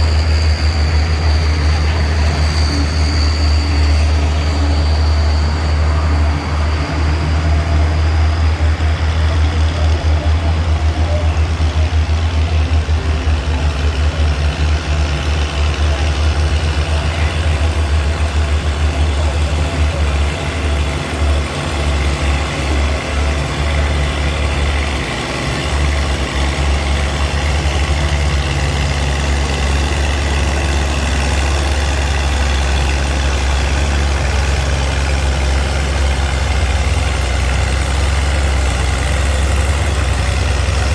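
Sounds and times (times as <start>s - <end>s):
tractor engine throbbing: 0.0s - 40.9s.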